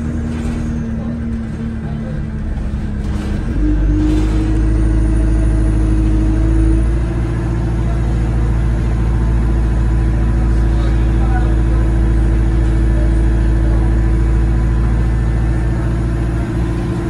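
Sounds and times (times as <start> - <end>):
bus engine drone with whine: 0.0 - 17.0.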